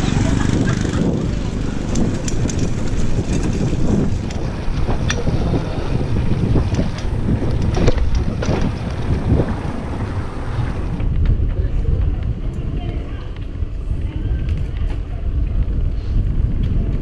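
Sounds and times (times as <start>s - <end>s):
wind buffeting microphone: 0.0s - 17.0s
bike clicks and rattles: 0.2s - 17.0s.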